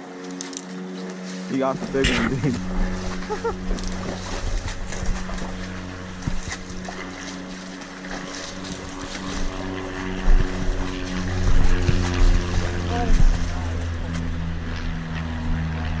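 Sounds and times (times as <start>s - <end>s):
engine humming steadily: 0.0s - 16.0s
wind noise on microphone: 2.1s - 7.5s, 8.6s - 16.0s.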